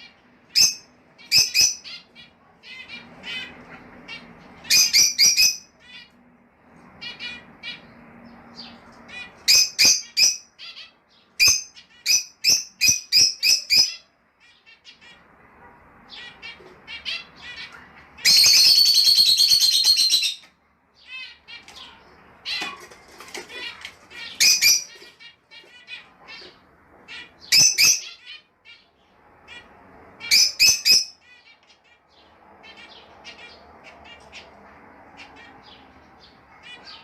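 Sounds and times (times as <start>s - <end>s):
lovebirds chirping: 0.0s - 37.0s.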